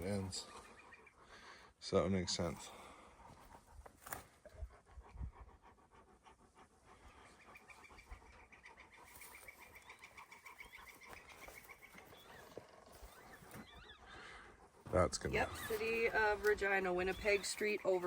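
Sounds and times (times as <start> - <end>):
faint panting: 0.0 - 18.0.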